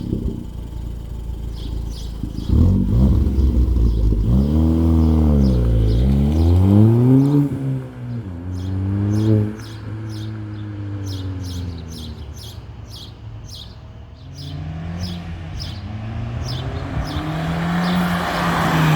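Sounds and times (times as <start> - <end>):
car engine revving: 0.0 - 13.1, 14.2 - 18.9.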